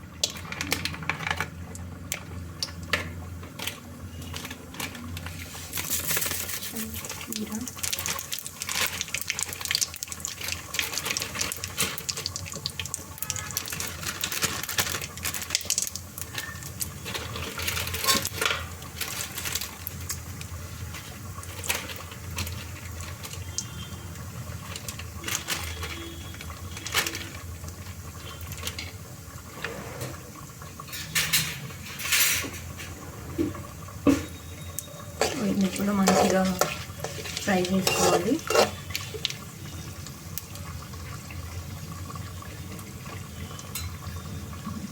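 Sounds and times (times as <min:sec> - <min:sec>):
spices sizzling in hot oil: 0:00.0 - 0:29.7, 0:33.6 - 0:44.9.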